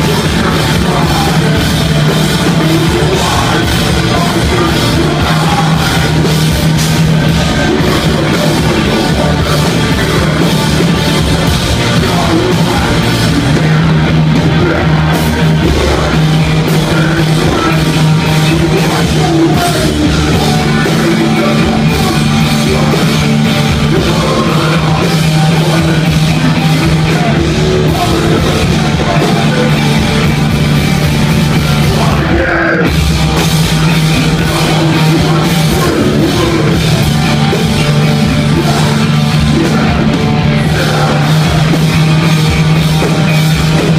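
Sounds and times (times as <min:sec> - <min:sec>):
distorted electric guitars: 0:00.0 - 0:43.9
drum kit: 0:00.0 - 0:43.9
person singing: 0:00.0 - 0:43.9.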